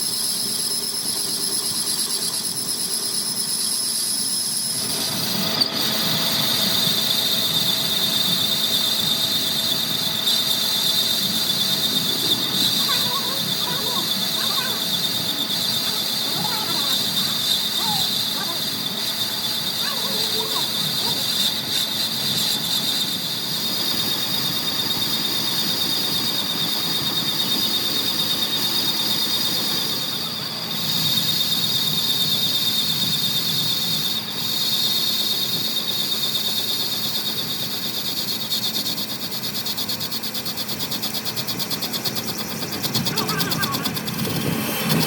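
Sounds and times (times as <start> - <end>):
metal squealing on machine tool: 0.0 - 45.0.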